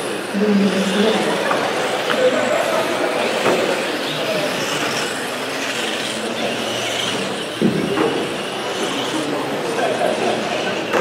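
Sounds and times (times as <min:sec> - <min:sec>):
rc car motor whines: 0:00.0 - 0:11.0
rc car motors whirring: 0:00.0 - 0:11.0.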